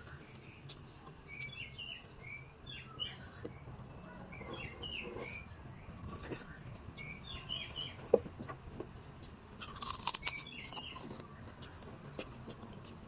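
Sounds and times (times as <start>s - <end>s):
birds chirping: 0.0s - 9.2s, 10.1s - 11.5s
low steady hum: 0.0s - 13.0s.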